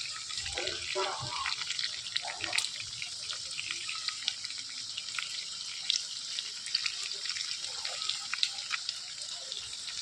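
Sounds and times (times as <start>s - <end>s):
pork sizzling in oil: 0.0s - 10.0s
oil popping: 0.2s - 10.0s.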